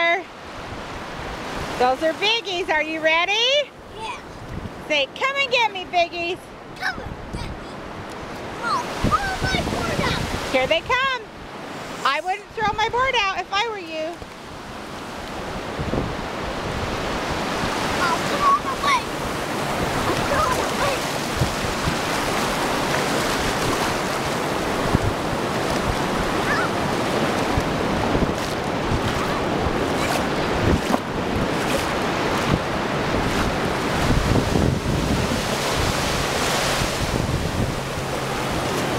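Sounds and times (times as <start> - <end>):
waves breaking on beach: 0.0 - 38.9
wind buffeting microphone: 0.0 - 38.9.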